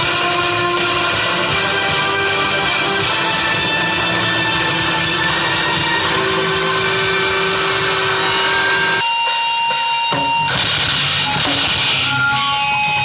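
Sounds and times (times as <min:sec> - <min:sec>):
electric guitar note ringing: 0:00.0 - 0:13.0
rock band playing live: 0:00.0 - 0:13.0.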